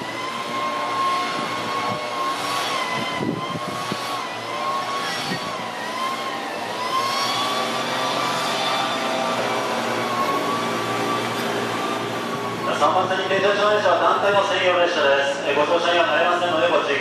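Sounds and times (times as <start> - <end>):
electric train whine: 0.0 - 17.0
train low rumble: 0.0 - 17.0.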